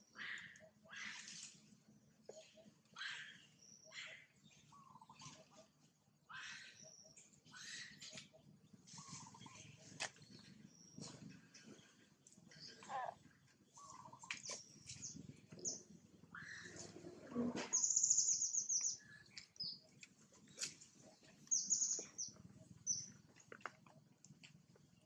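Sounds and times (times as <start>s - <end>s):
small birds chirping: 0.0s - 16.9s, 17.7s - 25.0s.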